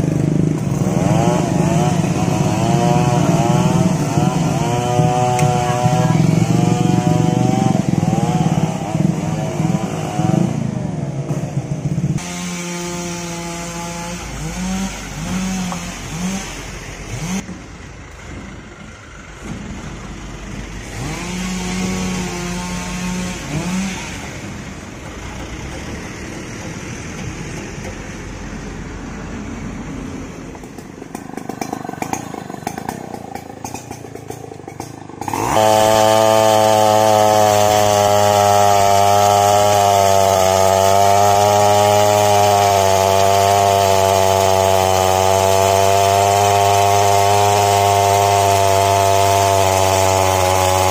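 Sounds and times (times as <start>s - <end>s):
chainsaw cutting wood: 0.0s - 17.6s, 20.7s - 27.8s, 30.6s - 50.9s
motorcycle engines revving and passing: 0.0s - 17.6s, 20.4s - 49.4s.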